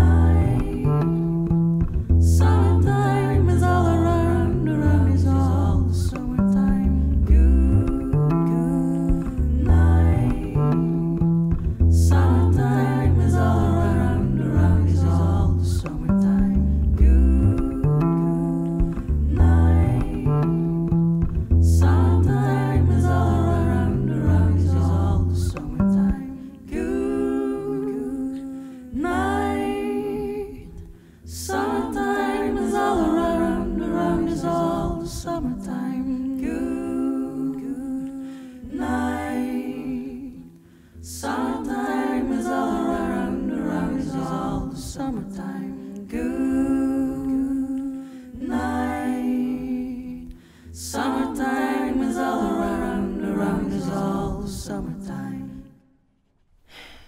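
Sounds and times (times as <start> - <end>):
plucked double bass notes: 0.0 - 28.4, 29.0 - 37.8, 41.0 - 47.6, 48.4 - 55.6
woman singing slow melody: 0.0 - 55.8.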